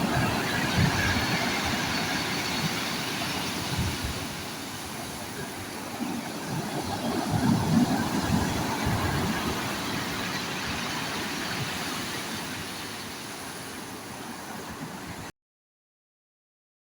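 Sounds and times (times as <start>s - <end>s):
sea waves washing onto shore: 0.0s - 15.3s.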